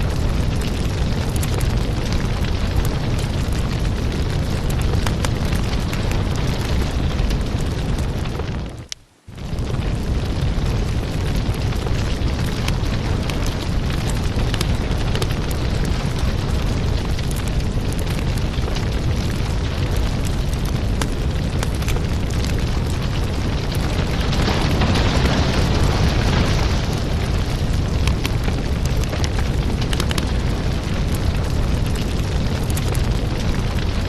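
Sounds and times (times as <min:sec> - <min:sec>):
firewood crackling and popping: 0:00.0 - 0:34.0
low rumble of flames: 0:00.0 - 0:34.0.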